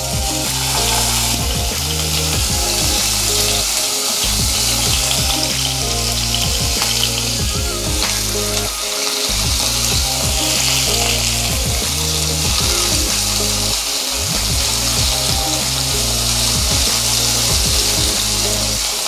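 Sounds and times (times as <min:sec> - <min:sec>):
background music: 0:00.0 - 0:19.0
chicken sizzling in a frying pan: 0:00.0 - 0:19.0.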